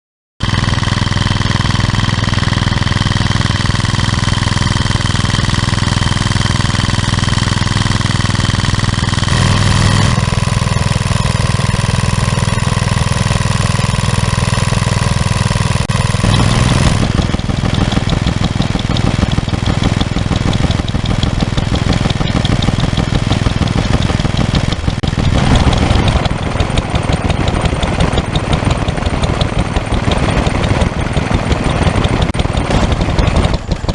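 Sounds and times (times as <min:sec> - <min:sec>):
stationary engines running: 0:00.4 - 0:33.9.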